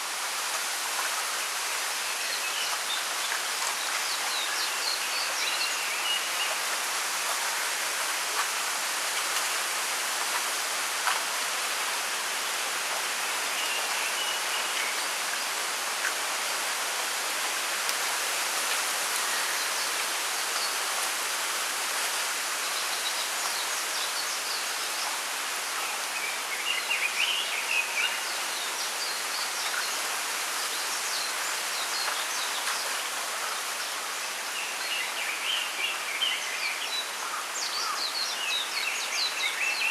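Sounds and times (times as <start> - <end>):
bamboo leaves rustling in wind: 0.0 - 39.9.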